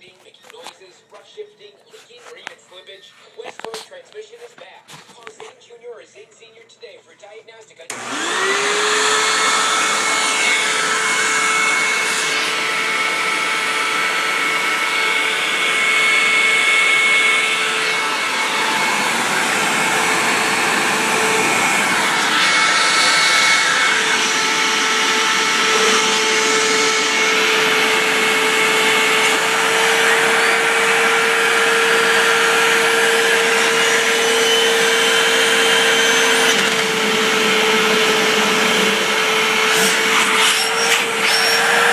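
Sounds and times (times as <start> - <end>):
vacuum cleaner motor whining: 7.9 - 41.9.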